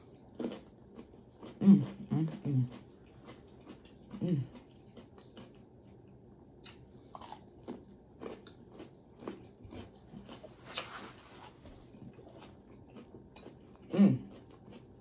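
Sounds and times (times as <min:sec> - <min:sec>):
person chewing corn: 0:00.0 - 0:15.0.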